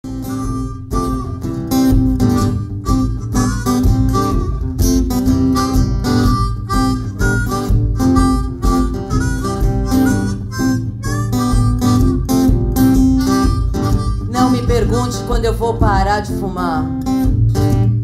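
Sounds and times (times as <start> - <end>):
harmonica playing: 0.0 - 16.0
acoustic guitar strumming: 0.0 - 18.0.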